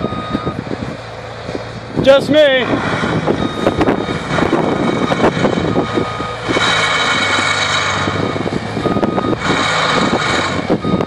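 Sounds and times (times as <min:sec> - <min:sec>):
diesel engine running hard: 0:00.0 - 0:11.0.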